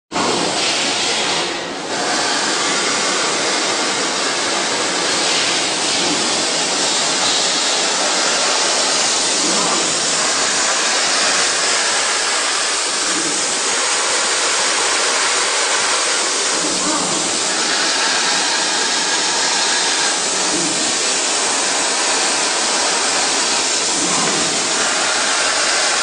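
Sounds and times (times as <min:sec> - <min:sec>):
machining center drilling hiss: 0:00.2 - 0:26.0.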